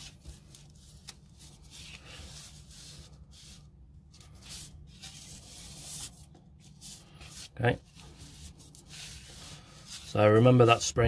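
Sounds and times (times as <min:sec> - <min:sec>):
hands rustling on workbench mat: 0:00.0 - 0:10.8.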